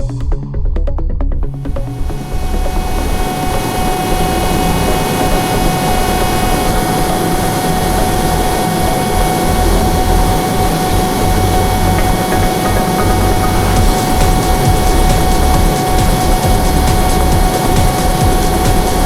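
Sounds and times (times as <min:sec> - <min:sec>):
turboprop engine running: 0:00.0 - 0:19.0
higher whining tones: 0:01.6 - 0:19.0.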